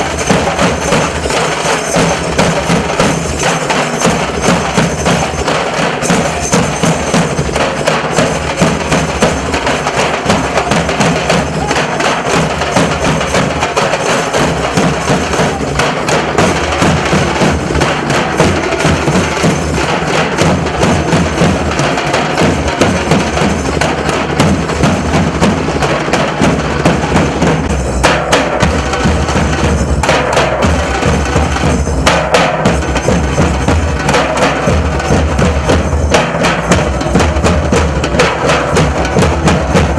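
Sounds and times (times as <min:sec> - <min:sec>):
dhol drums beating fast: 0:00.0 - 0:39.9.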